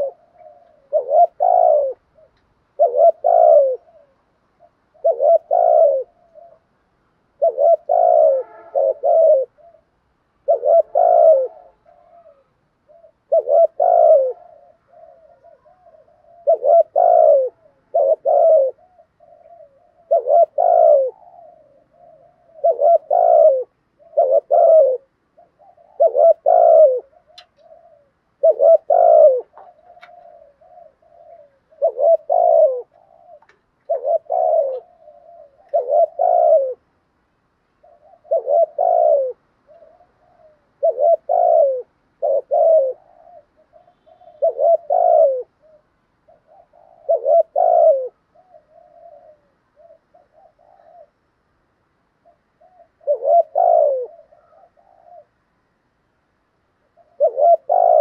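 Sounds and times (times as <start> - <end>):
soft low dove notes: 0.0 - 6.7, 7.4 - 37.0, 37.6 - 51.2
dove cooing: 0.0 - 55.6, 56.6 - 58.0.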